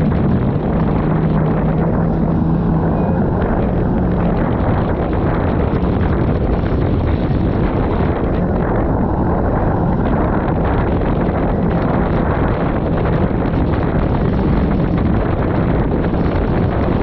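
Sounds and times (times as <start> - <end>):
jet ski engine running: 0.0 - 17.0
wind buffeting microphone: 0.0 - 17.0.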